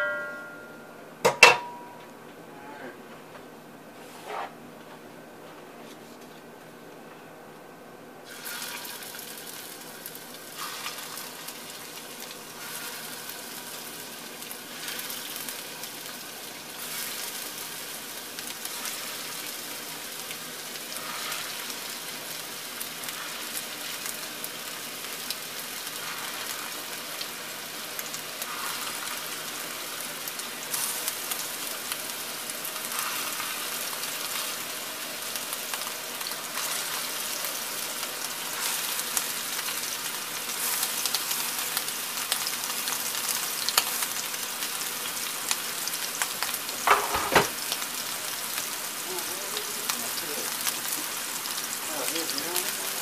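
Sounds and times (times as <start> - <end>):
meatballs sizzling in hot oil: 8.2 - 53.0.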